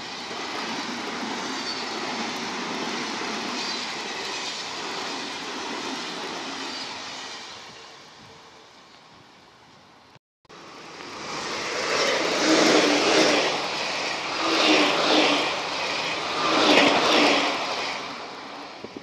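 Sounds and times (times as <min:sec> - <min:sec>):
electric train passing: 0:00.0 - 0:19.0
wheels rushing on rails: 0:00.0 - 0:19.0.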